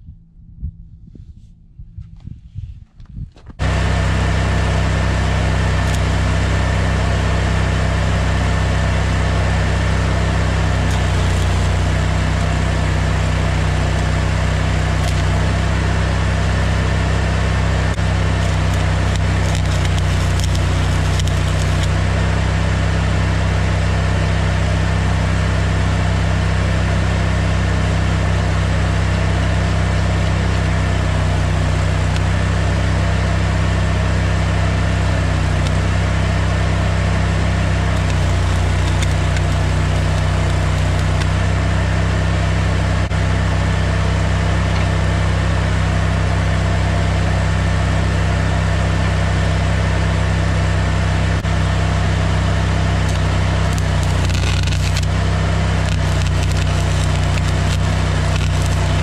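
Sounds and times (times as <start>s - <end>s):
welding machine humming: 3.6s - 49.8s, 50.4s - 59.0s.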